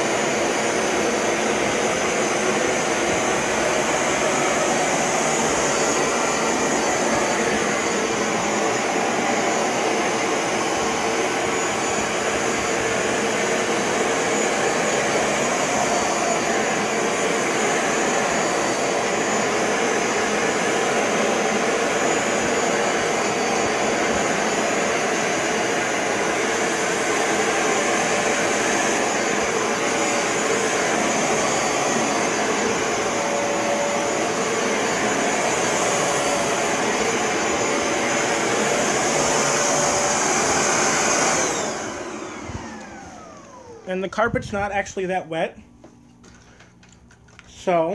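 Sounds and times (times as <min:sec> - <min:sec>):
carpet cleaner motor running: 0:00.0 - 0:44.0.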